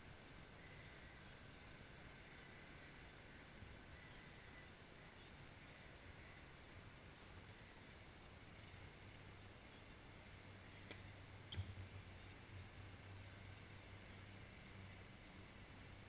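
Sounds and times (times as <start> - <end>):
faint ticks: 0.0 - 3.4, 4.0 - 10.0, 10.6 - 16.0
faint outdoor hiss: 0.0 - 16.0.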